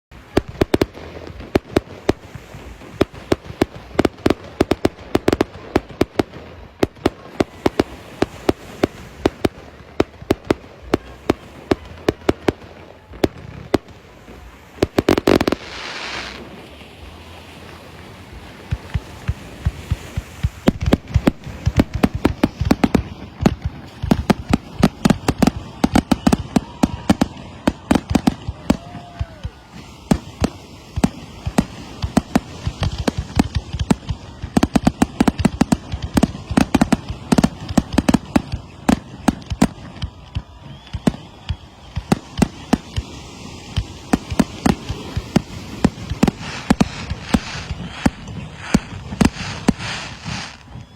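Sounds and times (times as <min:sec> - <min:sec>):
fireworks bangs: 0:00.1 - 0:50.9.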